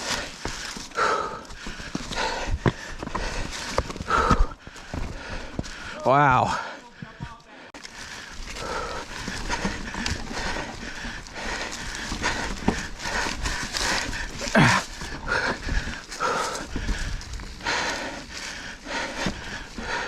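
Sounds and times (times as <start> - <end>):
mountain bike rattling over rocks: 0.0 - 6.2, 6.9 - 20.0.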